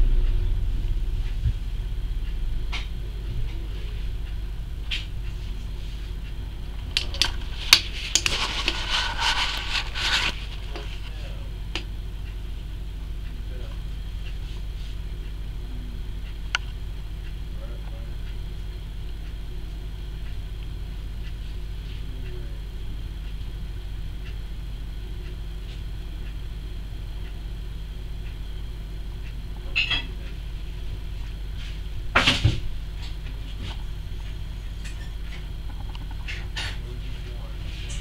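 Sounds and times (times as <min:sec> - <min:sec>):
low hum: 0:00.0 - 0:38.0.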